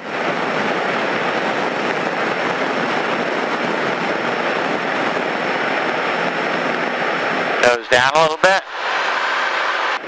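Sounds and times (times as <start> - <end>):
rushing wind: 0.0 - 10.0.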